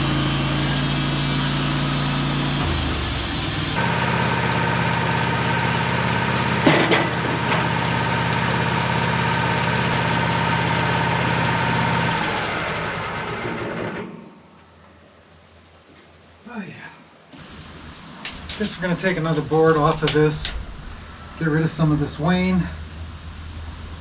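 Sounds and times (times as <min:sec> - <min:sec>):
sawmill engine running: 0:00.0 - 0:14.3, 0:17.4 - 0:24.0.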